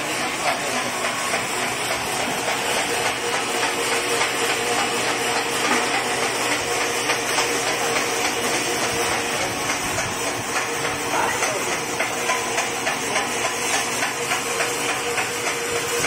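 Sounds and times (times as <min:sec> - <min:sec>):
sewing machine whirring: 0:00.0 - 0:16.0.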